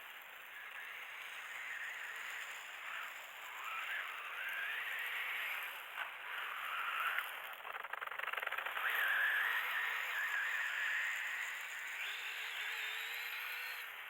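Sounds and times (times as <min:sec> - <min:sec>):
small electric motor whining: 0:00.1 - 0:14.0.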